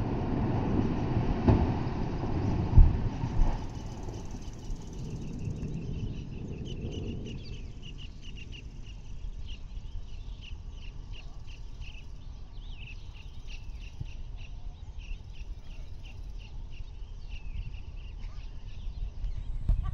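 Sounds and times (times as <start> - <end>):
continuous low rumble: 0.0 - 19.9
birds chirping: 3.1 - 19.9.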